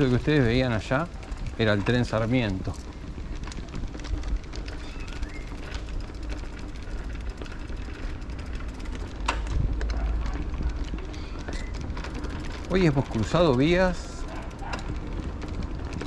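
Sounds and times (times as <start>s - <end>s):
bike rattling and clicking: 0.0s - 16.0s
bike rolling over cobblestones: 0.0s - 16.0s.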